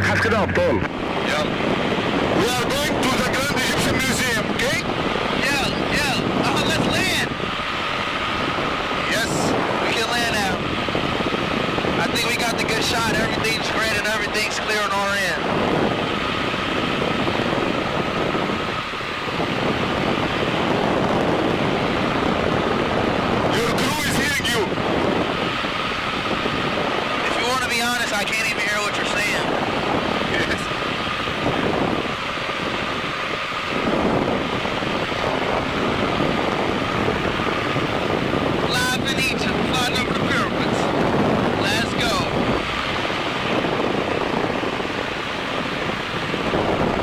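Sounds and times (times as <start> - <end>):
helicopter rotor and engine: 0.0 - 47.0
thin steady whine: 0.0 - 47.0.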